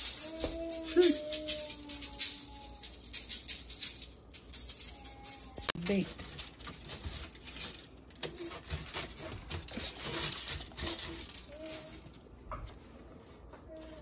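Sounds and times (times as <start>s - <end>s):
aluminium foil crinkling: 0.0s - 14.0s.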